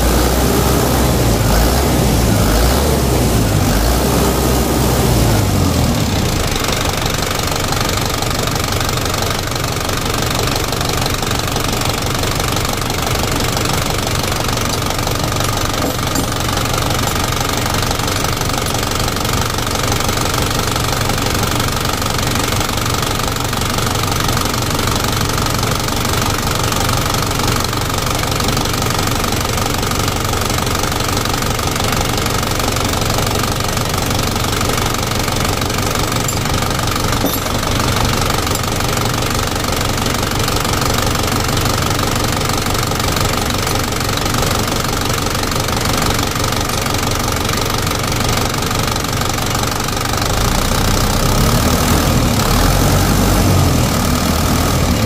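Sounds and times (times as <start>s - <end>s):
diesel engine idling with knock: 0.0s - 55.0s.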